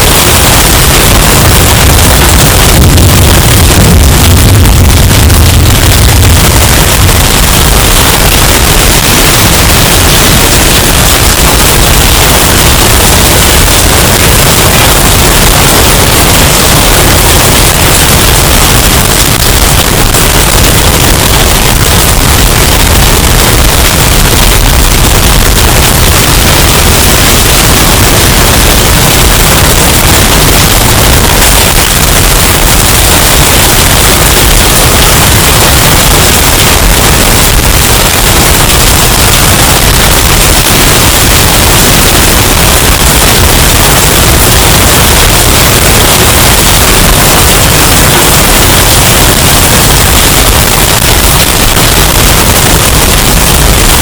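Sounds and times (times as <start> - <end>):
loud distorted hurricane wind: 0.0 - 54.0.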